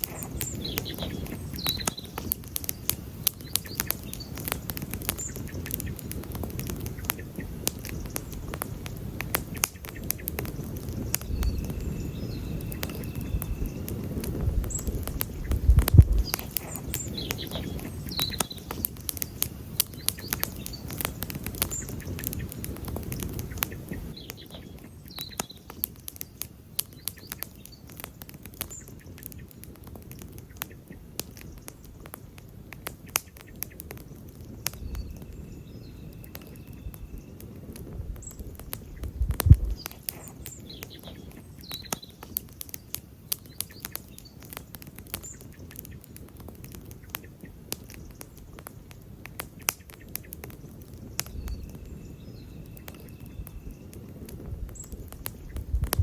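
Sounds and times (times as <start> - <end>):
faint bird chirps: 0.0 - 29.7, 33.0 - 48.4, 49.5 - 55.8
campfire crackling and popping: 0.0 - 56.0
low rumble of burning wood: 0.0 - 56.0.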